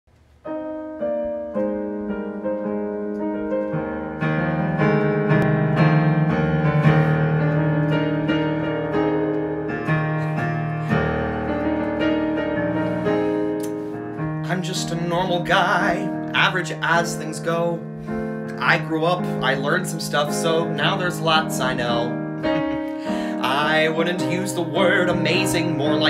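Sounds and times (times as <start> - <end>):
solo piano: 0.1 - 26.0.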